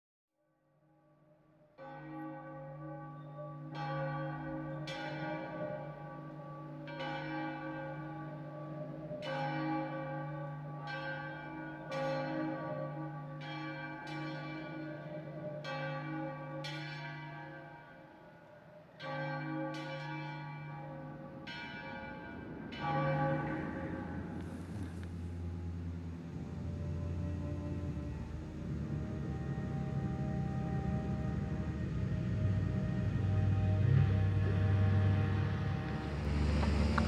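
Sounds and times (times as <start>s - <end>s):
church bell tolling: 1.8s - 36.6s.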